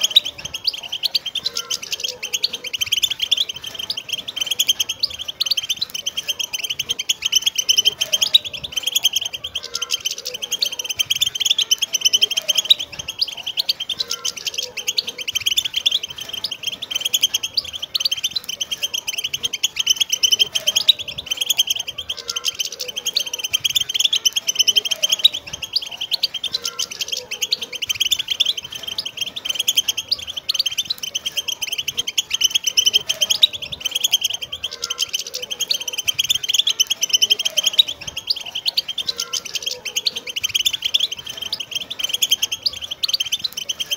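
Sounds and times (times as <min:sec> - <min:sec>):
goldfinches twittering: 0:00.0 - 0:43.9.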